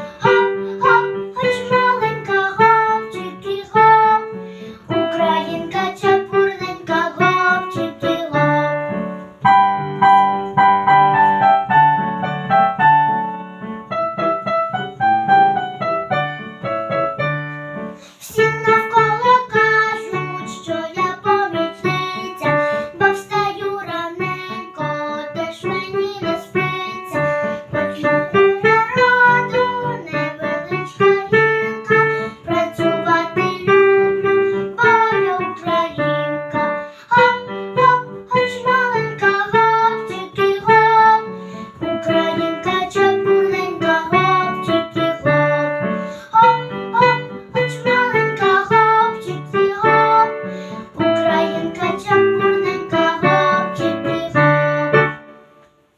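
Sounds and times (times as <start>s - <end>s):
girl singing: 0.0s - 55.4s
piano-style keyboard accompaniment: 0.0s - 55.9s.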